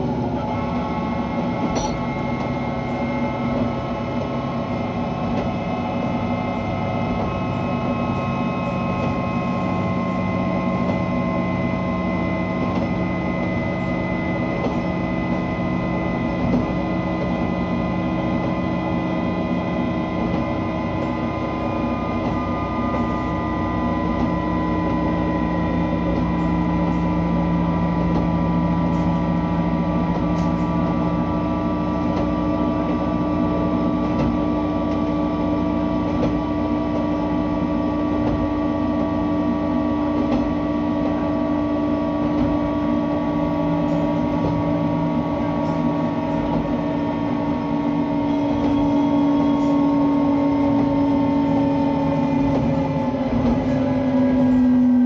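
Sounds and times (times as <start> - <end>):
diesel engine drone: 0.0 - 55.0
train wheels on rail: 0.0 - 55.0.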